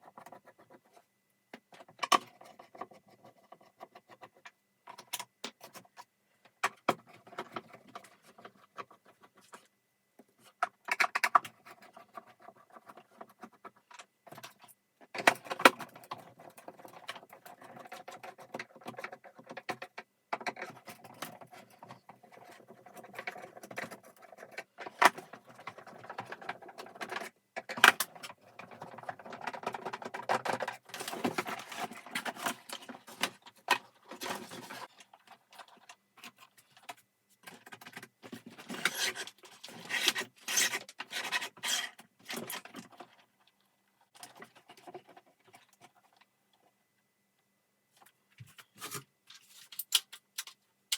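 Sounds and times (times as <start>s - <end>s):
plastic parts clicking and rattling: 1.5s - 9.7s, 10.3s - 46.7s, 48.0s - 50.9s.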